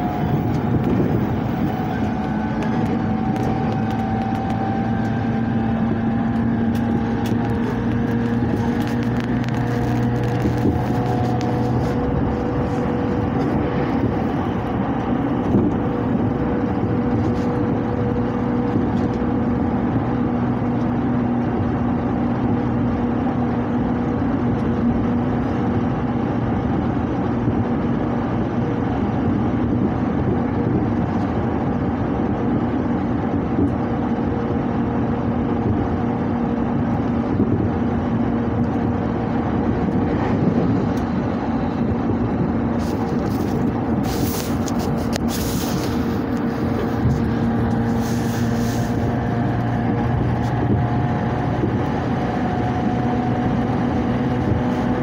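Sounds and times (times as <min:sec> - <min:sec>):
low motor hum: 0:00.0 - 0:55.0
train wheels rumbling on rails: 0:00.0 - 0:55.0.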